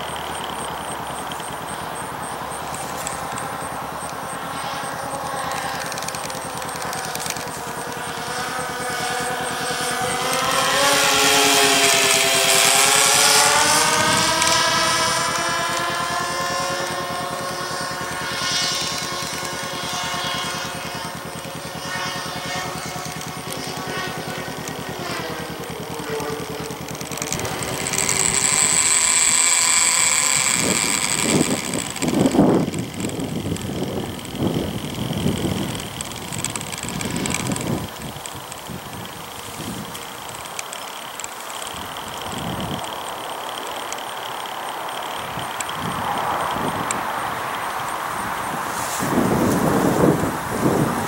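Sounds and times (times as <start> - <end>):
high whine: 0.0 - 51.0
model airplane motor flying past: 0.0 - 51.0
wind buffeting microphone: 0.8 - 40.5, 45.2 - 51.0.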